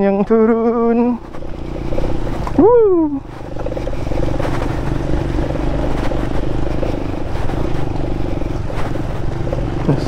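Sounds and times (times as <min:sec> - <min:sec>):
moped engine running: 0:00.0 - 0:10.0.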